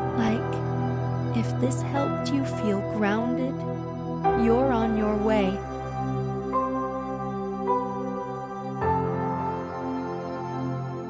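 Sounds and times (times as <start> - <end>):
soft new-age music chord: 0.0 - 11.0.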